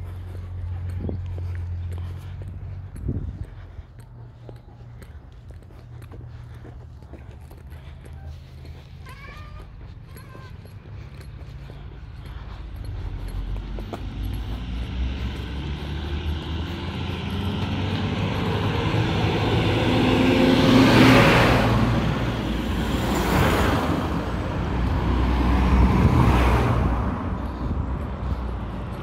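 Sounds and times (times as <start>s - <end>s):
car passing: 0.0s - 29.0s
truck passing: 0.0s - 29.0s
tyre noise on asphalt: 0.0s - 29.0s.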